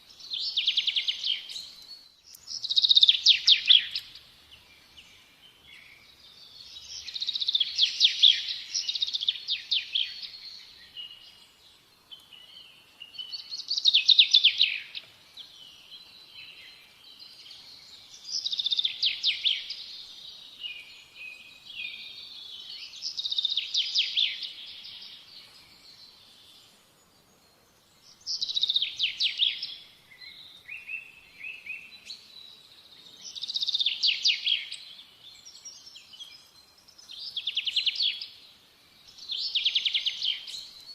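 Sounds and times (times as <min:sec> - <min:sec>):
soft bird twittering: 0:00.0 - 0:40.9.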